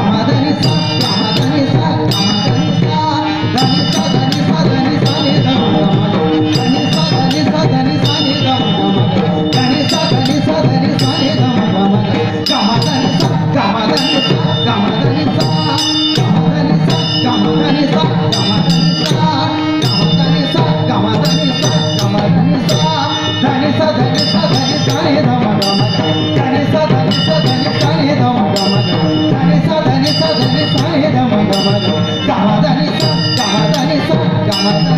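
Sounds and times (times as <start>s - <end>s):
drum accompaniment: 0.0s - 34.9s
hand cymbals ringing: 0.0s - 34.9s.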